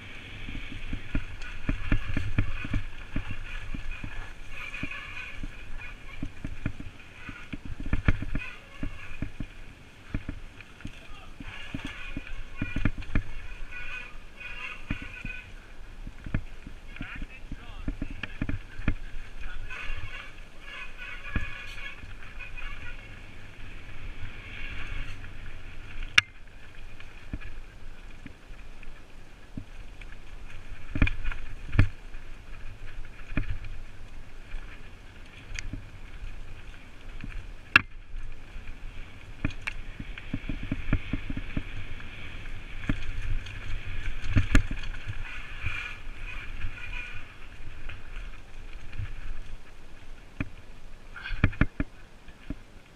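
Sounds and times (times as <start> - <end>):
bike rattling: 0.0 - 52.9.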